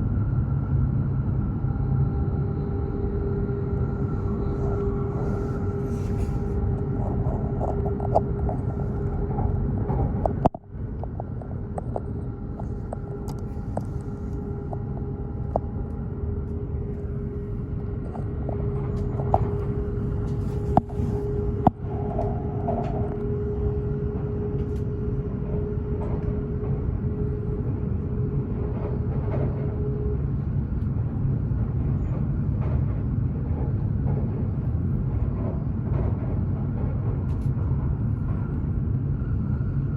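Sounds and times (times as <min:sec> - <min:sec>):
steady hum: 0:00.0 - 0:39.9
train cabin rumble: 0:01.2 - 0:39.9.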